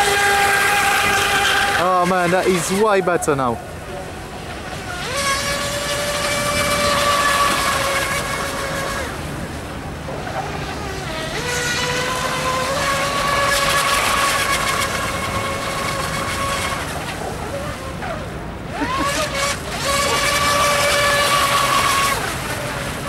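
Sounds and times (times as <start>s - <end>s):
electric boat motor whining: 0.0s - 23.0s.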